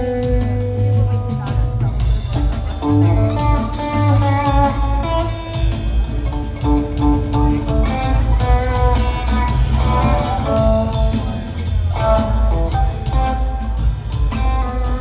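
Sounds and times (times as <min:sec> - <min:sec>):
bass: 0:00.0 - 0:15.0
drum kit: 0:00.0 - 0:15.0
guitar melodic line: 0:00.0 - 0:15.0.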